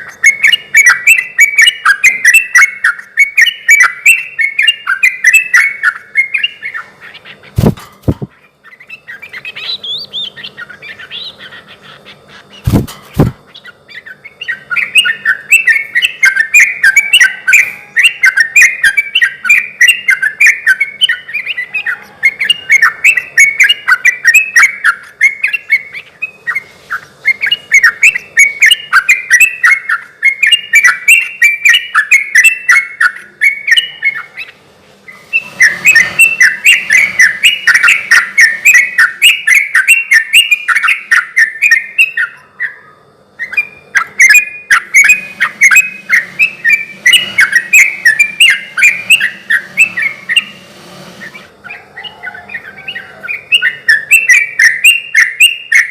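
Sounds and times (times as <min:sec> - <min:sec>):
bird singing chattering phrases: 0:00.0 - 0:55.9.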